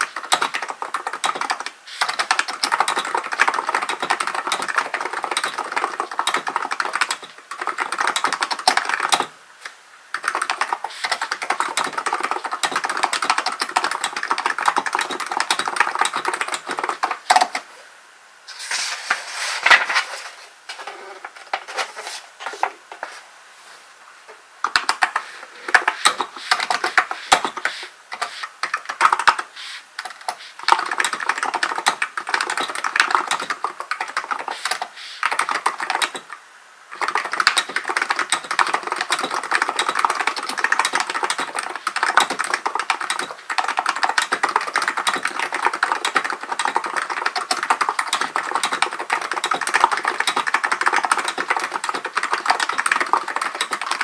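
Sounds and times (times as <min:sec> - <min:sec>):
keyboard typing clicks: 0:00.0 - 0:09.3, 0:10.1 - 0:17.6, 0:24.7 - 0:36.4, 0:37.0 - 0:54.0.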